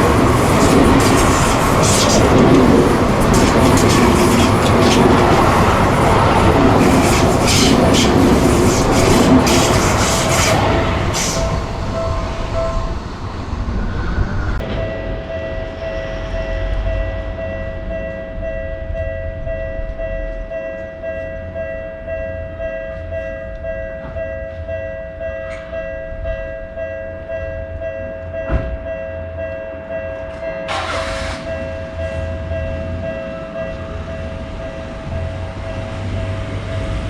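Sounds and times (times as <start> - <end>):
level-crossing alarm ringing: 0.0 - 37.0
train rumbling past: 0.0 - 37.0.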